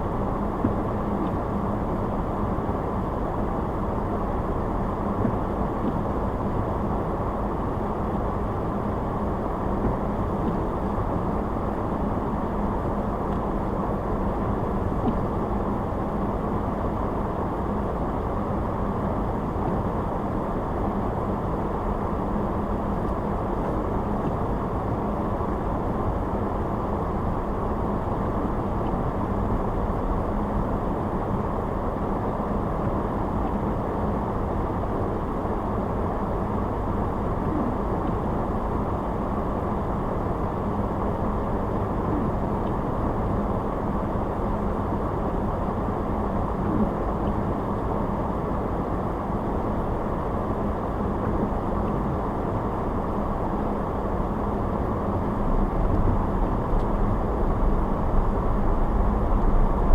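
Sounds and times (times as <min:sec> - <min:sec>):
car tyre and engine drone: 0:00.0 - 0:59.9.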